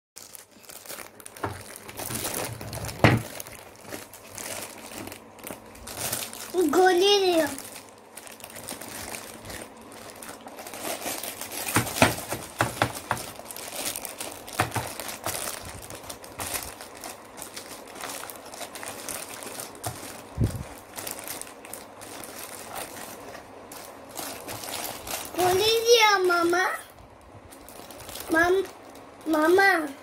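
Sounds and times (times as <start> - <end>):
plastic bag crinkling: 0.2 - 30.0.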